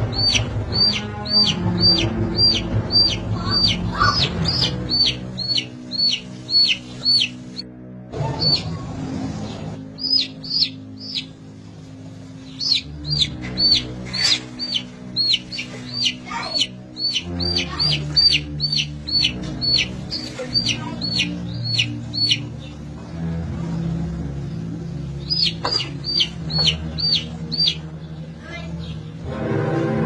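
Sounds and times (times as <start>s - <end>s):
baby chick peeping: 0.0s - 7.6s, 8.2s - 11.5s, 12.1s - 23.8s, 24.4s - 29.1s.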